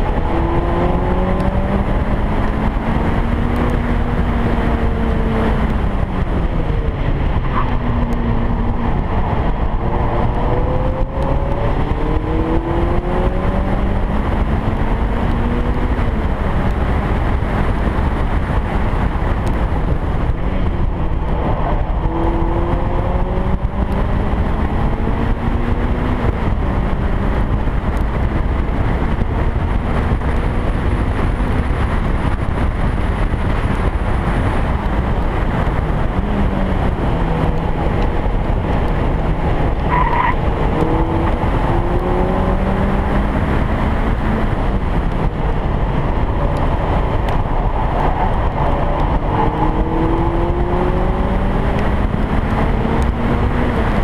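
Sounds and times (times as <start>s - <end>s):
racing car engine: 0.0s - 54.0s
wind and road noise: 0.0s - 54.0s.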